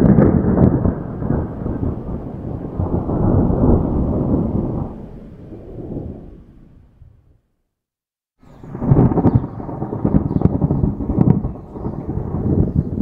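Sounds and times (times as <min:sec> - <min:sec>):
rolling thunder rumble: 0:00.0 - 0:07.4, 0:08.4 - 0:13.0.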